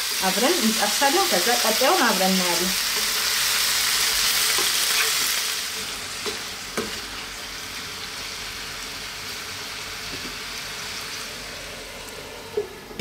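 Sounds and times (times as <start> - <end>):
food sizzling in frying pan: 0.0 - 12.8.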